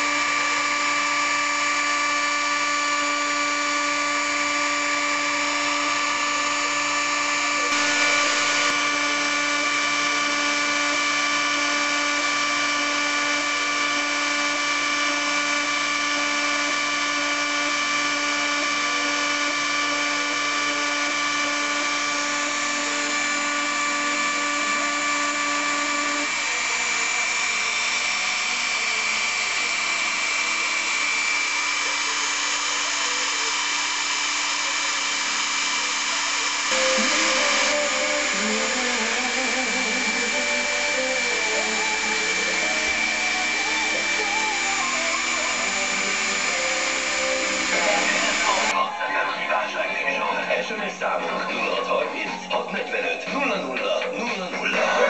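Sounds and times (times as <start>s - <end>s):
hissy machine sound: 0.0s - 48.8s
low machine hum: 0.0s - 48.8s
router spindle whine: 0.0s - 55.0s.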